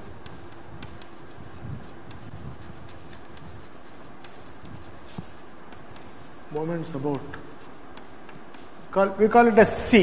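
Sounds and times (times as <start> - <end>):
chalk tapping on chalkboard: 0.0 - 9.0
chalk scratching on chalkboard: 0.0 - 9.1.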